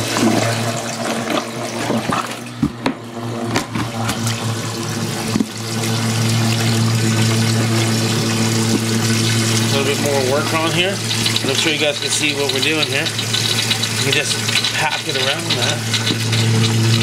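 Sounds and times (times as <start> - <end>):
water slurping and gurgling: 0.0 - 2.6, 3.7 - 17.0
water pump motor hum: 0.0 - 17.0.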